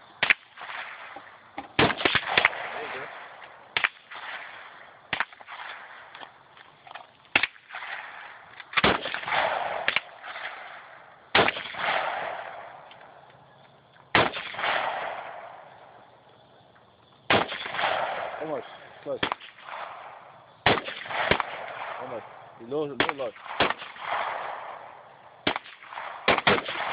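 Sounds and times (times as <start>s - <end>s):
rifle shots with echo: 0.2s - 6.2s, 7.3s - 13.2s, 14.1s - 16.0s, 17.3s - 26.9s.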